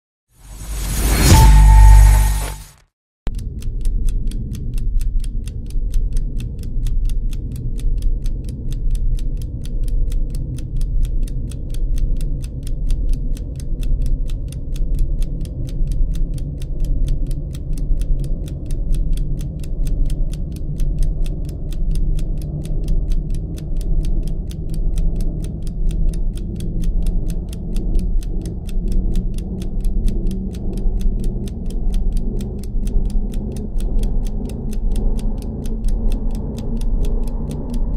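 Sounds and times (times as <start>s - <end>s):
stopwatch ticking: 3.3s - 37.9s.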